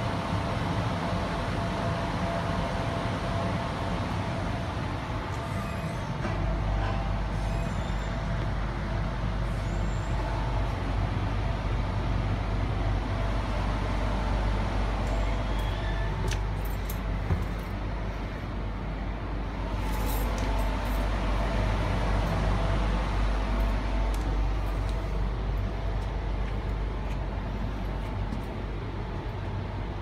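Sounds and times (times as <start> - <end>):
train car rumble and hum: 0.0 - 30.0.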